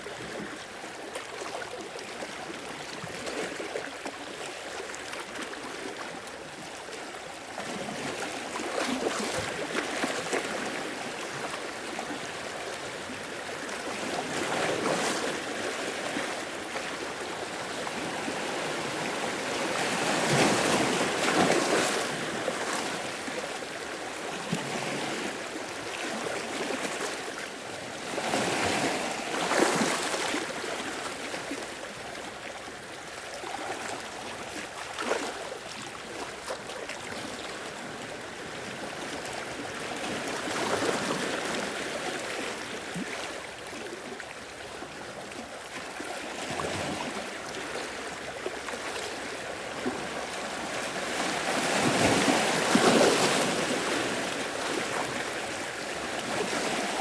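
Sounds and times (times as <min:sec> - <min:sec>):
ocean waves breaking on shore: 0:07.6 - 0:57.0.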